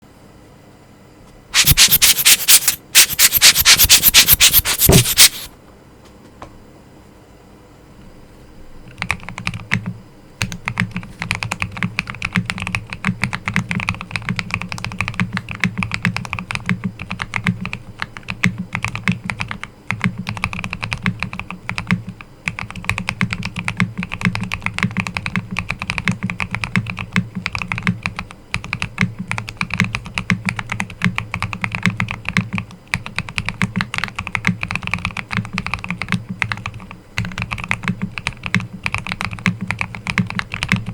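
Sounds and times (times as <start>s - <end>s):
keyboard typing: 1.6s - 5.5s, 8.9s - 40.9s.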